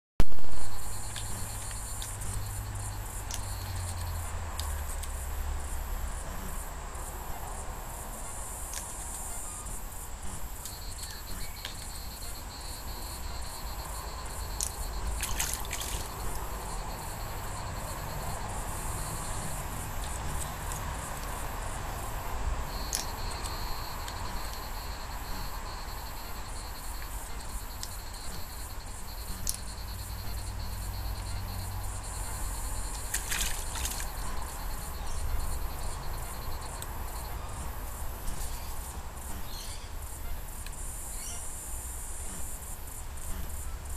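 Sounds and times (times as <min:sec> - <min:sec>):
lower insect trill: 0:00.3 - 0:43.9
insects trilling high: 0:00.5 - 0:43.9.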